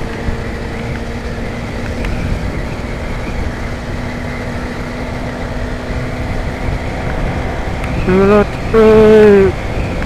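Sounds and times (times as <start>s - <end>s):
motorcycle engine cruising: 0.0s - 10.0s
road noise: 0.0s - 10.0s
wind rush on microphone: 0.0s - 10.0s.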